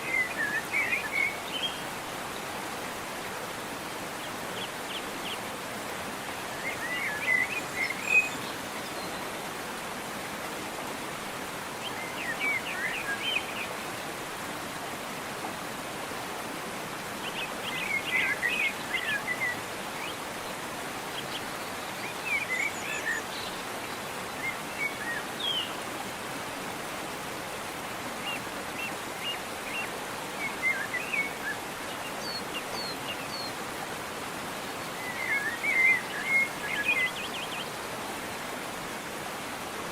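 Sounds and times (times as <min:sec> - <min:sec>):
songbirds chirping: 0:00.0 - 0:15.4, 0:16.0 - 0:39.9
waterfall rushing: 0:00.0 - 0:39.9.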